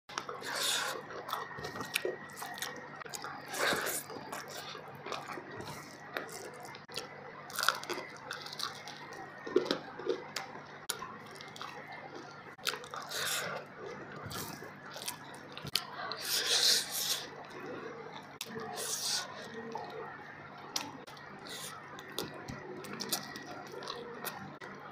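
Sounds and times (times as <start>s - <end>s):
person chewing food: 0.1s - 24.9s.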